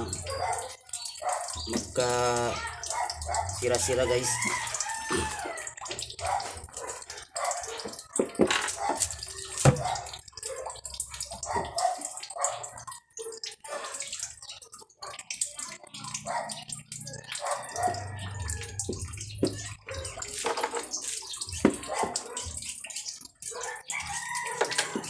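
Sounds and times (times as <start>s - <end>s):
water dripping and trickling: 0.0s - 25.0s.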